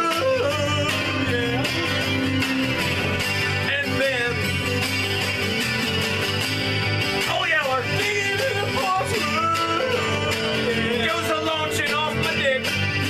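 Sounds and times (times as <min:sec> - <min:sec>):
man singing: 0:00.0 - 0:05.4, 0:07.2 - 0:13.0
acoustic guitar strumming: 0:00.0 - 0:13.0.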